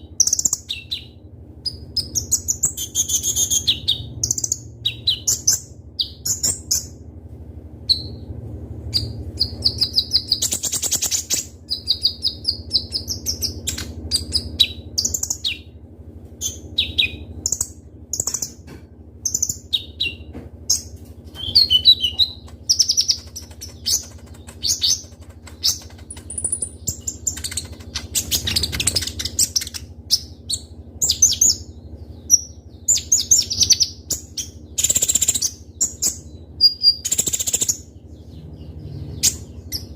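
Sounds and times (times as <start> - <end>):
bird chirping and trilling: 0.0 - 7.0, 7.8 - 15.8, 16.4 - 18.6, 19.2 - 39.9
faint low hum: 0.0 - 39.9.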